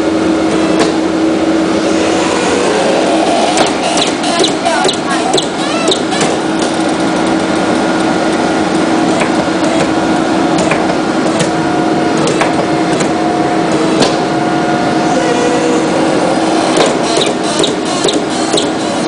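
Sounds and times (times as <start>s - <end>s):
briquette press humming: 0.0s - 19.0s.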